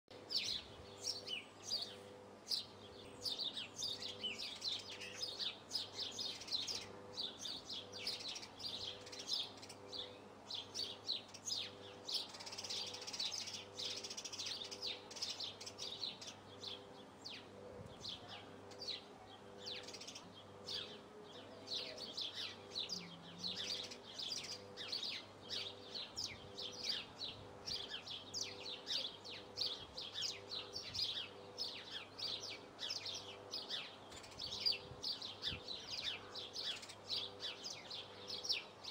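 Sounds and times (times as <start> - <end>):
small songbirds chirping: 0.1 - 38.9.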